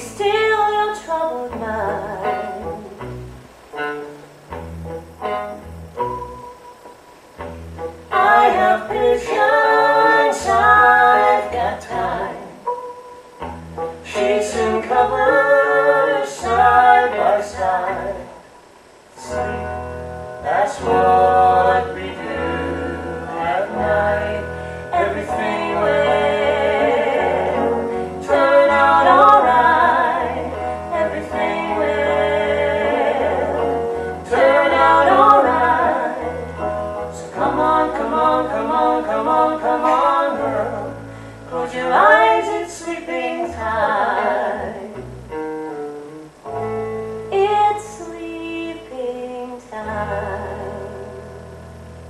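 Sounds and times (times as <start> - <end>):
person singing with vibrato: 0.0 - 4.2, 5.3 - 45.3, 47.3 - 51.8.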